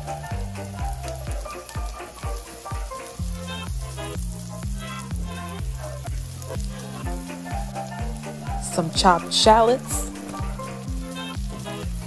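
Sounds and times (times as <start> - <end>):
background music with a beat: 0.0 - 12.0
food sizzling in a frying pan: 0.0 - 12.0.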